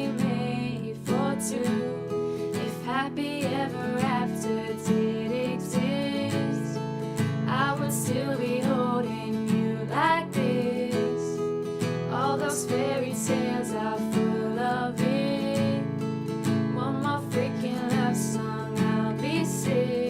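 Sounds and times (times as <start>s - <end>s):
acoustic guitar strumming: 0.0s - 20.0s
person singing: 0.0s - 20.0s.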